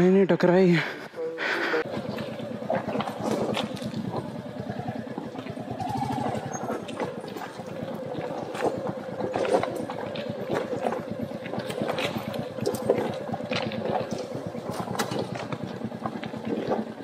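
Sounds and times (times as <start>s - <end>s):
motorcycle engine idling: 1.0s - 17.0s.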